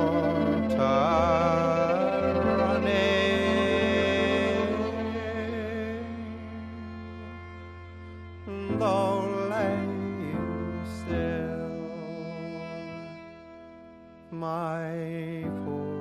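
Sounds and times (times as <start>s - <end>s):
violin with wide vibrato: 0.0s - 16.0s.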